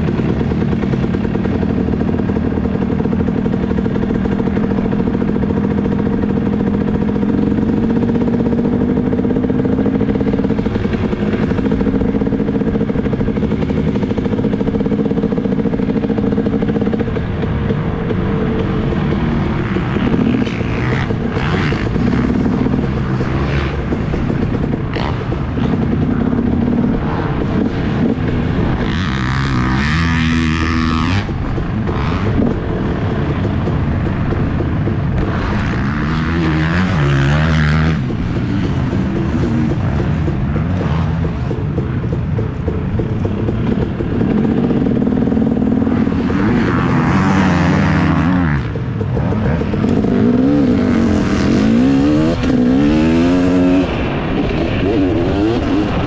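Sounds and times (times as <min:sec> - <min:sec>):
motocross bike engine: 0:00.0 - 0:56.0.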